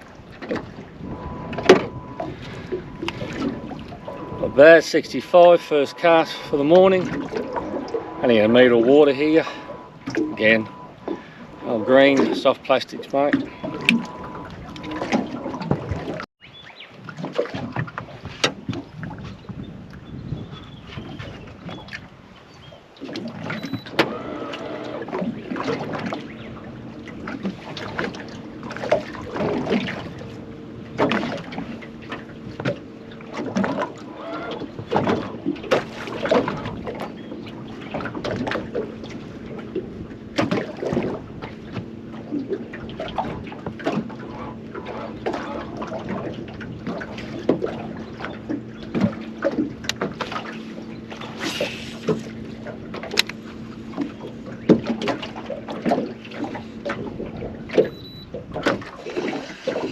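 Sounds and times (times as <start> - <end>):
boat motor running: 0.0 - 59.9
water slapping hull: 0.0 - 59.9.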